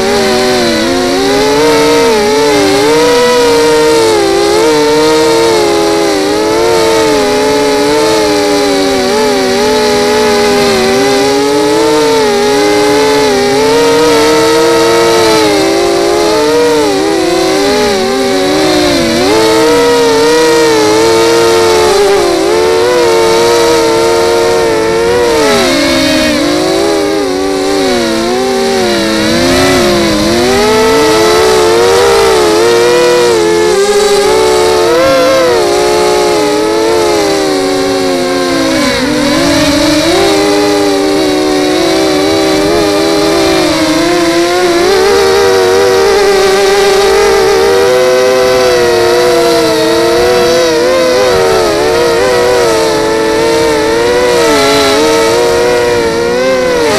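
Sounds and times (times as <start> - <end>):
quadcopter motors whining: 0.0 - 56.9.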